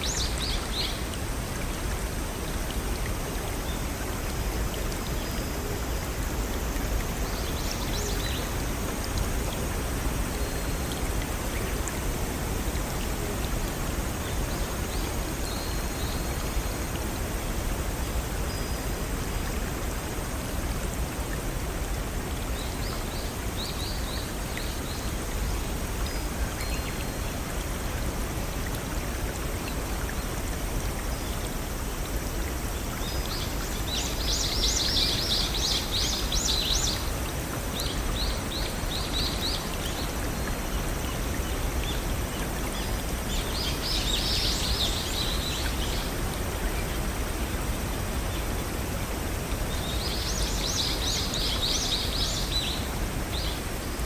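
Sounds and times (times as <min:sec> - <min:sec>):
water rushing in brook: 0:00.0 - 0:54.0.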